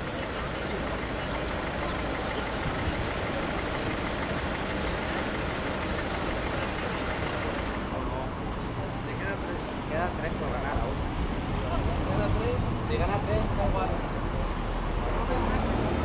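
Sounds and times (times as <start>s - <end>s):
large vehicle engine running: 0.0s - 16.0s
street traffic: 0.0s - 16.0s.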